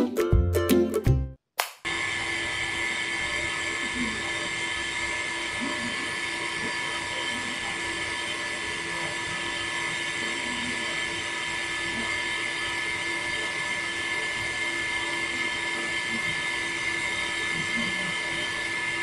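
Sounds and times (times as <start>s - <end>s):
water pump whining: 1.9s - 19.0s.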